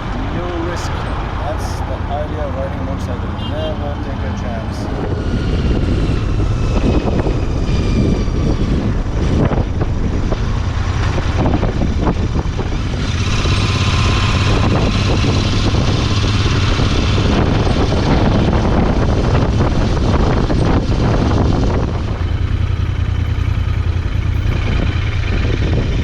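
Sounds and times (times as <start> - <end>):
wind rushing: 0.0 - 23.2
motorcycle engine running: 0.0 - 26.0.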